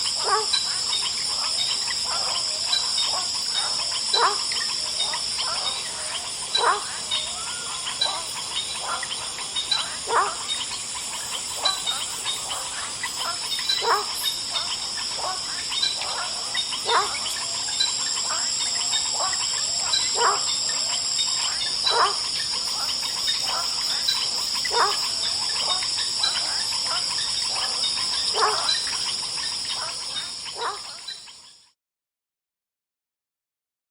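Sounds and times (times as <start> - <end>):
high insect drone: 0.0 - 31.6
frogs calling: 0.0 - 31.8.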